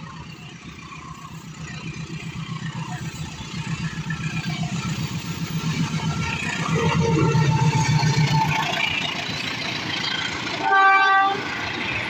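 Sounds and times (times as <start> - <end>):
diesel locomotive engine throbbing: 0.0 - 12.0.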